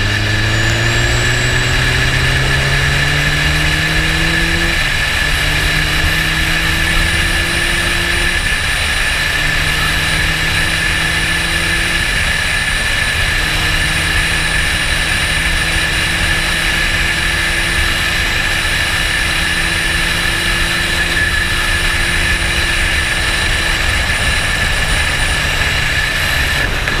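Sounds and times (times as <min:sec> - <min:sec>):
motorcycle engine drone: 0:00.0 - 0:27.0.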